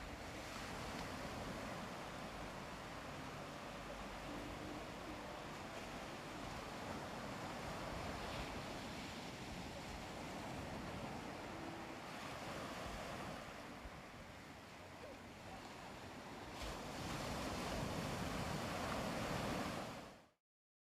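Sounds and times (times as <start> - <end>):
ocean waves washing onto beach: 0.0 - 20.4.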